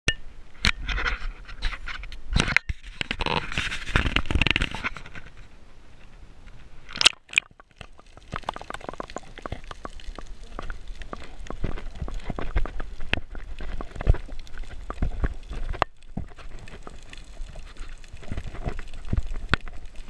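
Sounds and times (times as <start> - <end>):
small ticks and crackles: 0.9 - 20.0.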